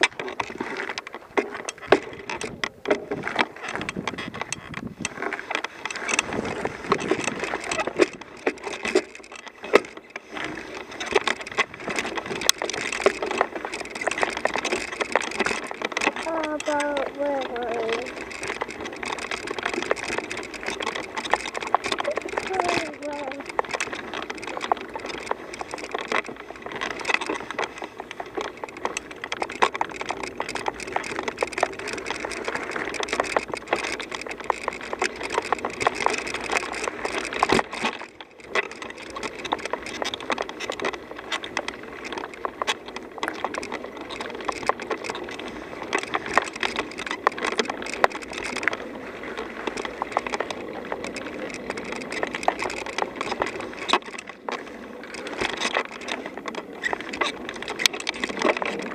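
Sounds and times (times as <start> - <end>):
bicycle tyres on gravel: 0.0 - 58.9.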